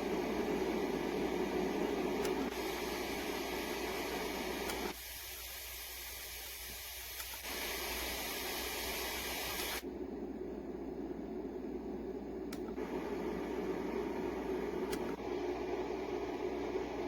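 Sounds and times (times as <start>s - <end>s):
sleep sound machine white noise: 0.0s - 17.0s.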